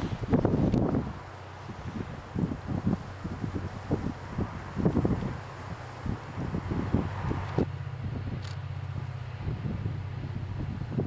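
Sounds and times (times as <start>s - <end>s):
diesel locomotive engine rumbling: 0.0s - 11.0s
wind buffeting microphone: 0.0s - 11.0s.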